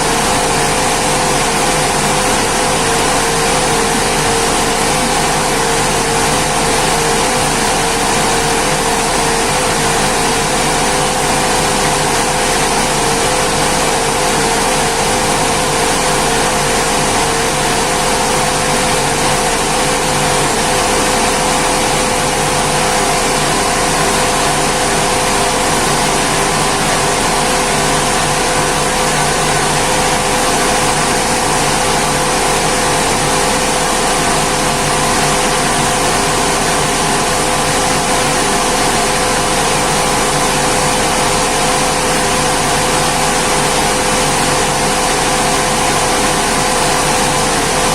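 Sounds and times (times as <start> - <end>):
rice milling machine running: 0.0 - 47.9.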